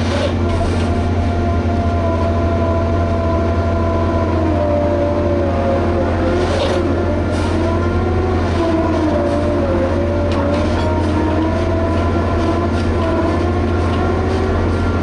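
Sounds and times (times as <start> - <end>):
machine engine and winch humming: 0.0 - 15.0.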